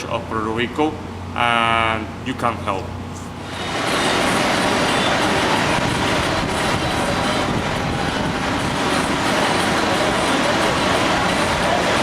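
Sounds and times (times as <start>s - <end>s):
vehicle rumble and hiss: 0.0s - 12.0s.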